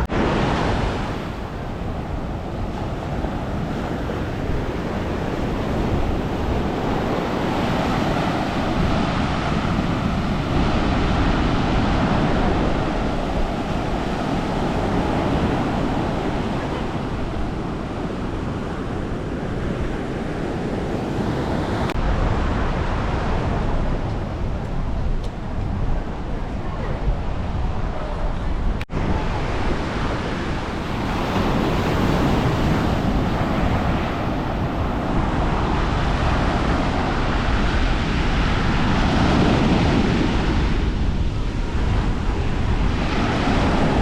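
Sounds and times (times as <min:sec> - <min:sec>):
sea waves washing onto beach: 0:00.0 - 0:26.2, 0:28.9 - 0:44.0
wind rumbling on microphone: 0:00.0 - 0:44.0.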